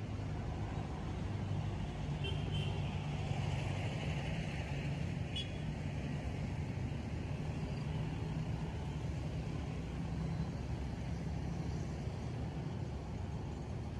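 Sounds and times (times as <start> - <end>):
road traffic hum: 0.0 - 13.9.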